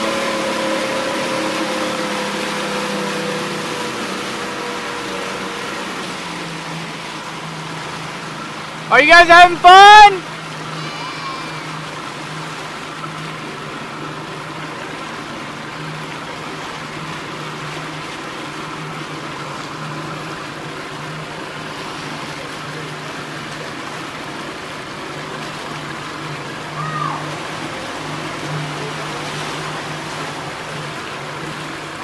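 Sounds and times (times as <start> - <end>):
motorboat engine running: 0.0 - 32.0
water rushing past hull: 0.0 - 32.0.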